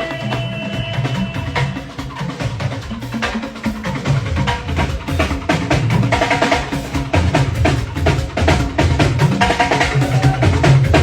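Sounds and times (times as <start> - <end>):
bass drum: 0.0 - 11.0
percussion band drumming: 0.0 - 11.0.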